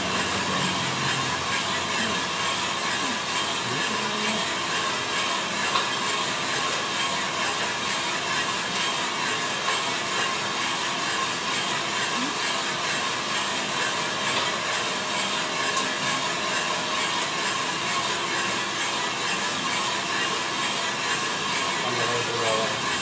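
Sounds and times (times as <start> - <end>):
coffee roaster rushing noise: 0.0 - 23.0.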